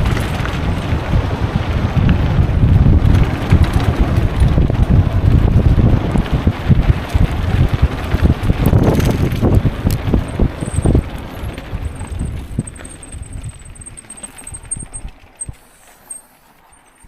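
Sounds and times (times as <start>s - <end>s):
wind buffeting microphone: 0.0s - 15.7s
mountain bike trail rumble: 0.0s - 17.0s.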